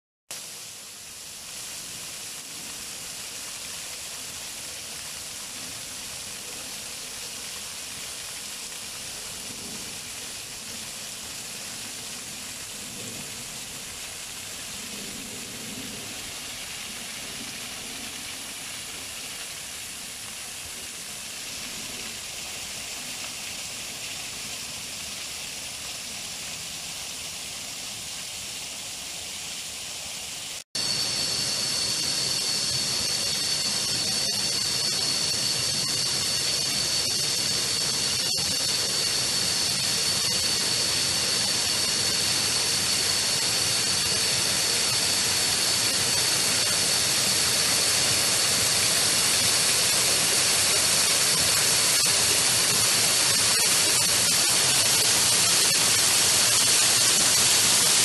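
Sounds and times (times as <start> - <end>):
waterfall pouring onto rocks: 0.3 - 58.0
high-pitched whine: 0.4 - 27.8, 30.8 - 58.0.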